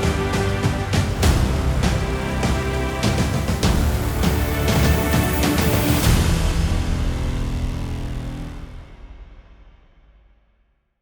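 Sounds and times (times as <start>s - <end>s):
background music low notes: 0.0s - 10.2s.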